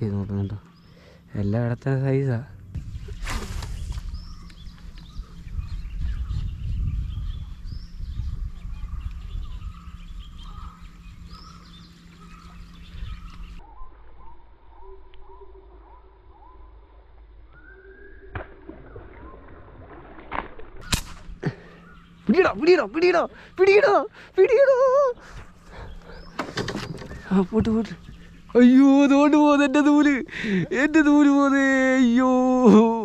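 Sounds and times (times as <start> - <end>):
birds chirping and calling: 0.0 - 19.5, 20.8 - 33.0.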